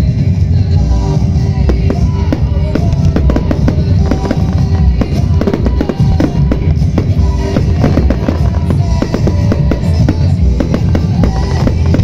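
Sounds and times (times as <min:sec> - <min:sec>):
fireworks bursting and crackling: 0:00.0 - 0:12.0
loud music with drum beat: 0:00.0 - 0:12.0.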